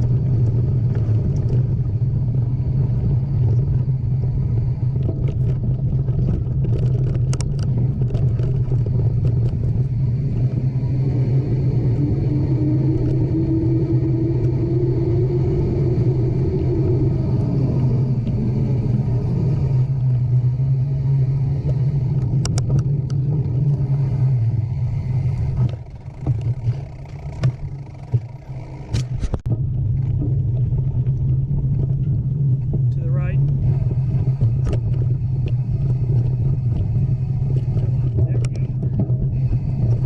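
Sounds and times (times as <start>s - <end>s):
moving vehicle rumble: 0.0s - 40.0s.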